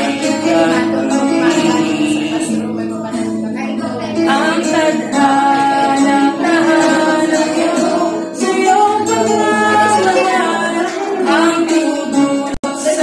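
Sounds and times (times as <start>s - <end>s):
young male voices singing pop ballad: 0.0s - 13.0s.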